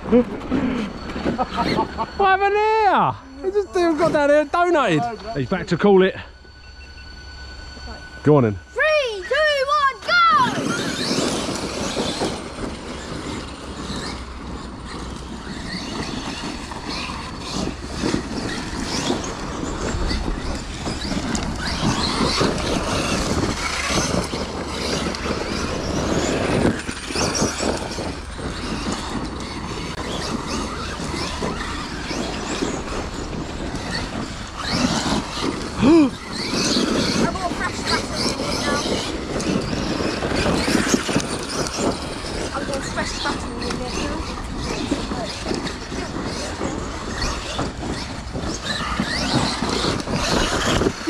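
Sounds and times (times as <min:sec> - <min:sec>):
rc truck motors whining: 0:00.0 - 0:51.0
tyres on dirt: 0:00.0 - 0:51.0.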